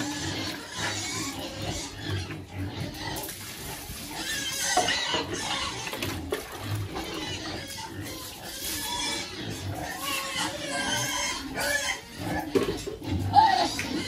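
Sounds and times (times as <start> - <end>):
pigs calling: 0.0 - 14.0.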